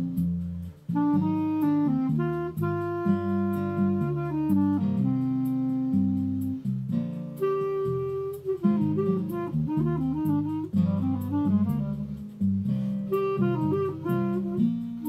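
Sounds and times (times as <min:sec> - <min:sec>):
clarinet playing slow melody: 0:00.0 - 0:15.0.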